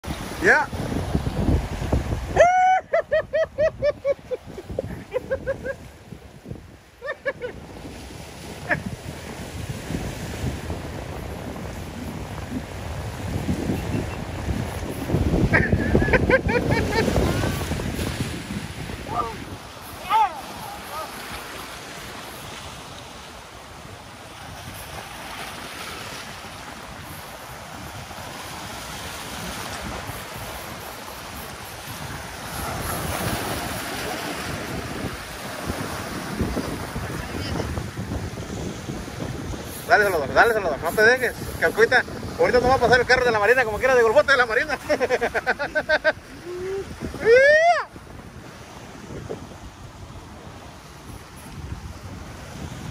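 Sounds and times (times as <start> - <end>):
surf breaking against rocks: 0.0 - 52.9
wind buffeting microphone: 0.0 - 52.9.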